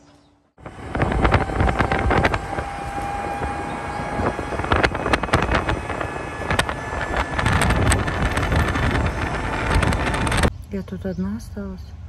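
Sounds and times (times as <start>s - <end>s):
road and tyre noise: 0.6s - 10.8s
wind buffeting microphone: 0.6s - 11.2s.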